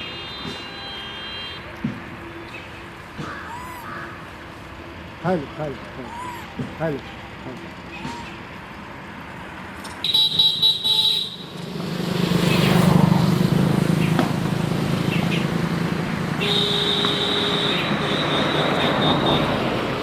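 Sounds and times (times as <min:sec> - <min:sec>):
road vehicle passing: 0:00.0 - 0:20.0.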